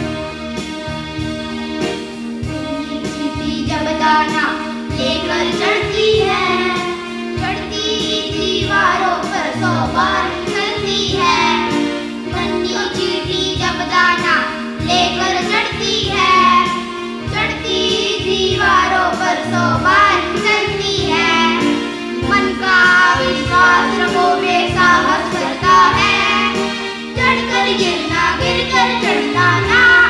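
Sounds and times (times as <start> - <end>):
backing music with low beat: 0.0 - 30.0
boys singing into microphones: 4.9 - 30.0.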